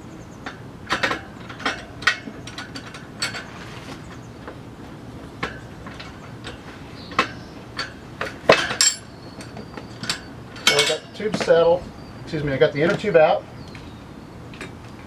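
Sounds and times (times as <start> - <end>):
tire changing clicks and knocks: 0.0 - 15.0.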